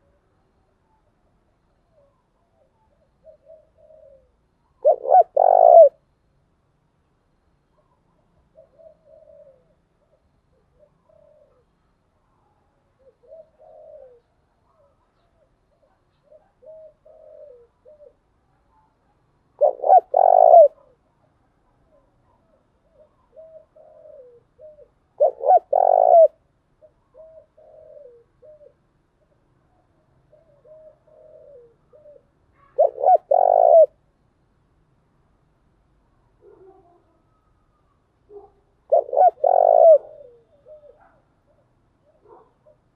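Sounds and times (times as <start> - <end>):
dove cooing: 1.8 - 6.2, 7.3 - 11.8, 12.8 - 18.9, 19.5 - 34.0, 36.4 - 42.9.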